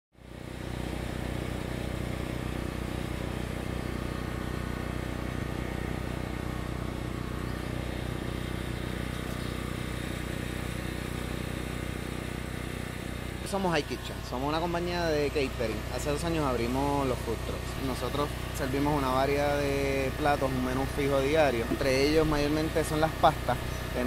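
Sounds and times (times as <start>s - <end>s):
engine humming steadily: 0.1s - 24.0s.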